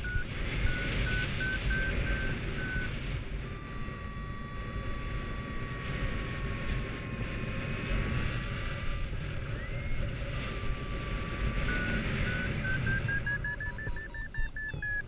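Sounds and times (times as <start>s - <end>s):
variometer tone and beeps: 0.0s - 15.0s.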